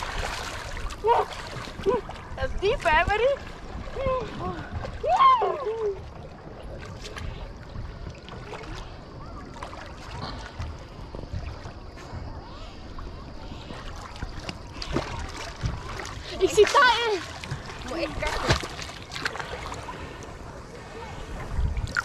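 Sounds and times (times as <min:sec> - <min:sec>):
low uneven rumble: 0:00.0 - 0:22.0
sea water splashing: 0:00.0 - 0:22.0.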